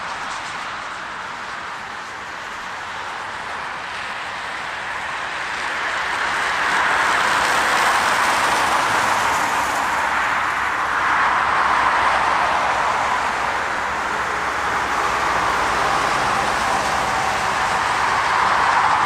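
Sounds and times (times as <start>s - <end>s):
highway traffic passing at speed: 0.0s - 19.0s.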